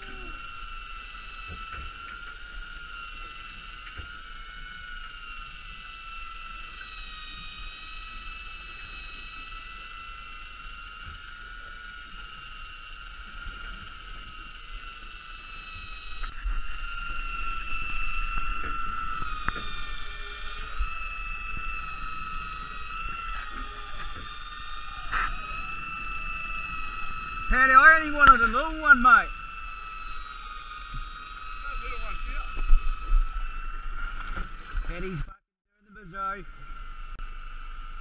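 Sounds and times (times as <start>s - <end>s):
high-pitched mechanical whine: 0.0s - 38.0s.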